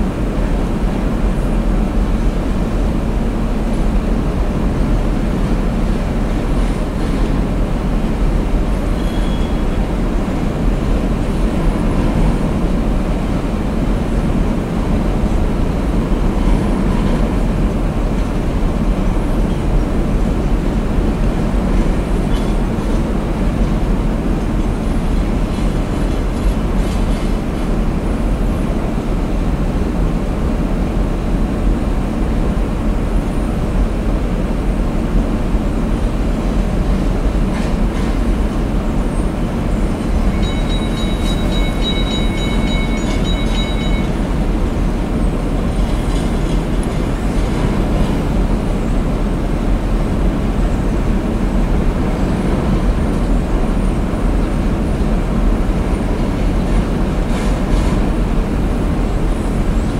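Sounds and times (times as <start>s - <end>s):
steel train wheels rumbling on rail: 0.0s - 59.9s.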